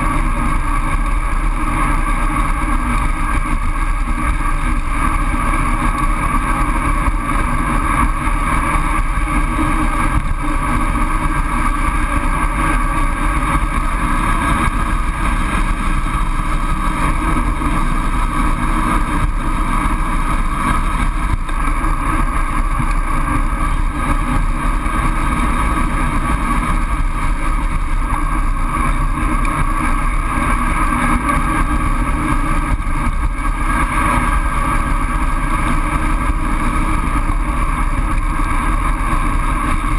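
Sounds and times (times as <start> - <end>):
tyre and road noise: 0.0 - 39.9
wind noise on camera: 0.0 - 39.9.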